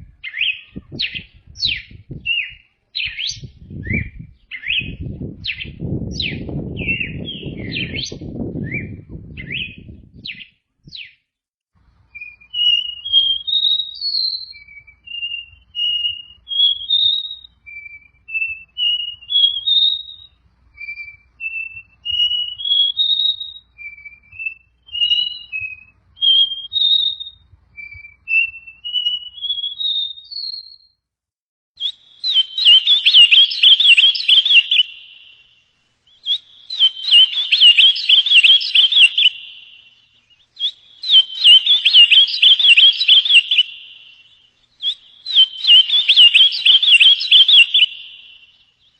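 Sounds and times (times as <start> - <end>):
bird chirps: 0.0 - 11.2, 12.1 - 31.0, 31.8 - 48.9
songbird whistled notes: 0.0 - 11.2, 12.1 - 31.0, 31.8 - 48.9.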